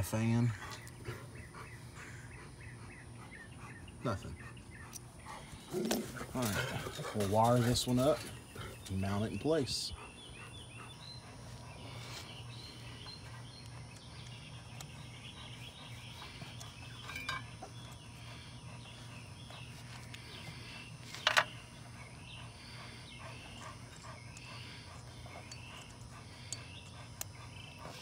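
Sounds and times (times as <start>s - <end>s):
birds chirping: 0.0s - 28.0s
steady low hum: 0.0s - 28.0s.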